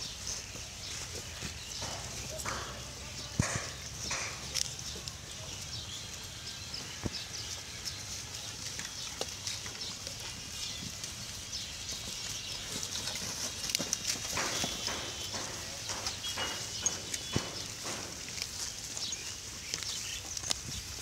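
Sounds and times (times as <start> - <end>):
pigs rustling and rooting: 0.0 - 21.0.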